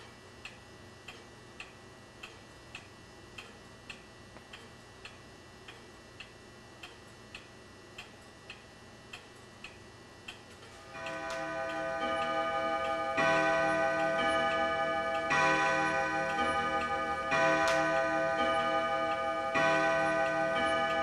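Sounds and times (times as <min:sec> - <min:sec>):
mechanical clock ticking: 0:00.0 - 0:21.0.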